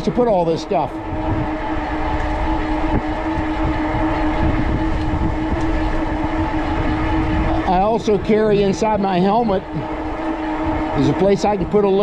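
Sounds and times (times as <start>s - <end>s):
electric hub motor whining: 0.0s - 12.0s
tyres on trail: 0.0s - 12.0s
wind rumble on microphone: 0.0s - 12.0s.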